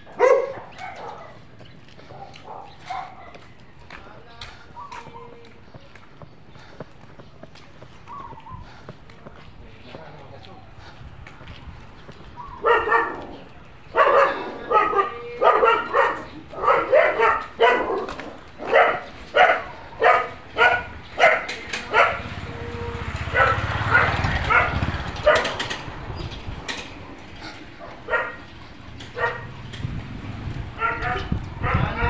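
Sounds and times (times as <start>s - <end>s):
dogs barking: 0.0s - 9.1s, 12.0s - 32.0s.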